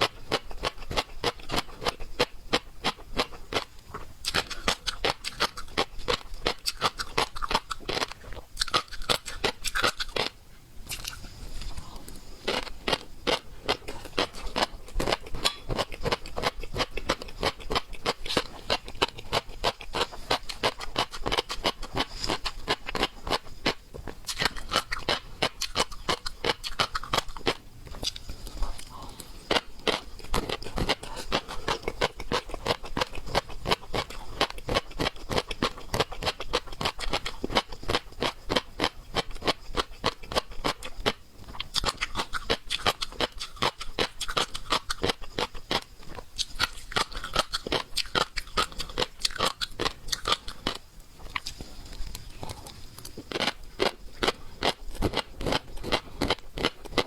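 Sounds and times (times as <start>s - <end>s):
wet chewing and mouth smacking: 0.2s - 57.0s.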